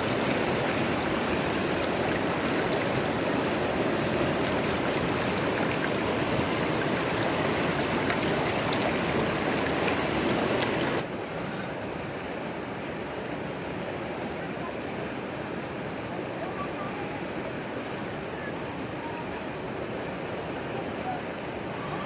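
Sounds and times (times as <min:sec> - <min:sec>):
river water over rocks: 0:00.0 - 0:22.0.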